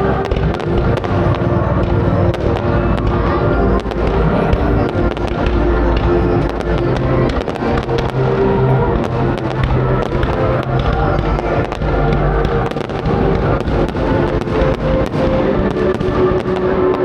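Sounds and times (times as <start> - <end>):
fireworks cracking and popping: 0.0 - 17.0
loud music: 0.0 - 17.0.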